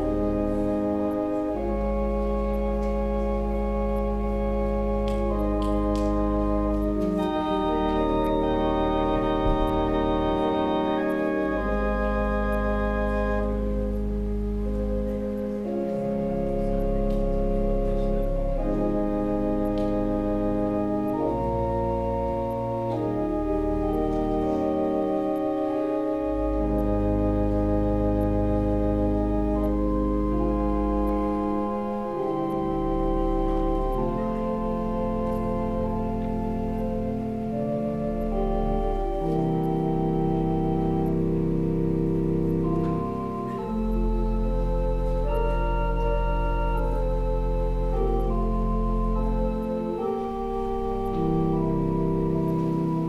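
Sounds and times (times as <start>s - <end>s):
organ playing slow chords: 0.0s - 53.0s.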